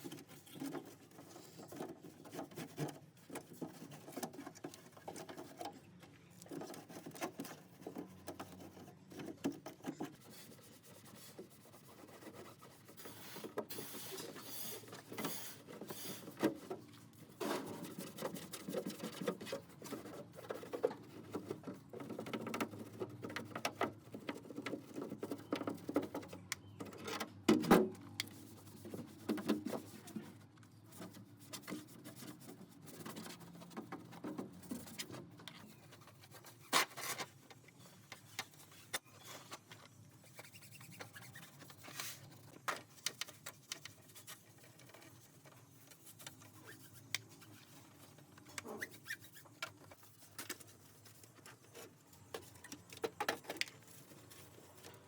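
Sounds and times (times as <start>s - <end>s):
tapping and scraping on small parts: 0.0s - 55.0s.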